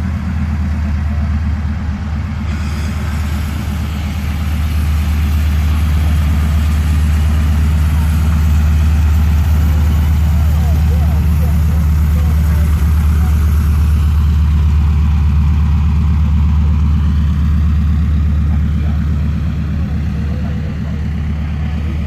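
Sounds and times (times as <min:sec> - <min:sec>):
aircraft piston engine drone: 0:00.0 - 0:22.0.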